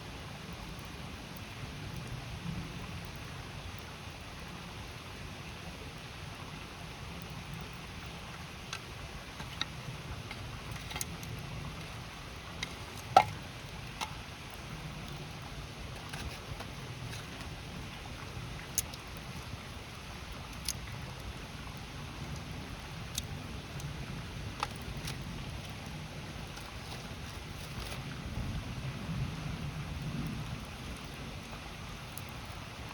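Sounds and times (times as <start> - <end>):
campfire crackling: 0.0 - 32.9
flowing river: 0.0 - 32.9.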